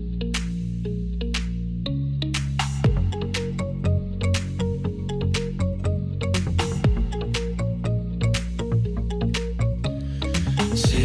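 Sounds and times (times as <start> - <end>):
pop instrumental with steady beat: 0.0 - 11.0.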